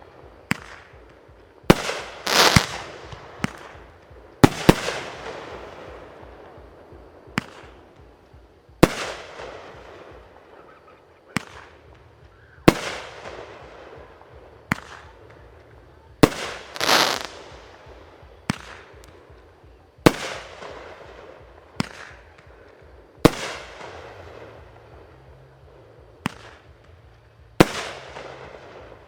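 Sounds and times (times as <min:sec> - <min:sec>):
fireworks bangs echoing: 0:00.0 - 0:15.5, 0:16.2 - 0:19.3, 0:20.0 - 0:25.3, 0:27.6 - 0:29.0
fireworks crackling: 0:00.0 - 0:29.0.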